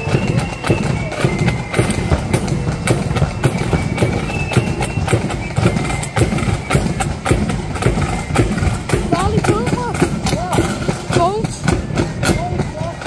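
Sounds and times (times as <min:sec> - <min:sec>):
marching drums beating: 0:00.0 - 0:13.0.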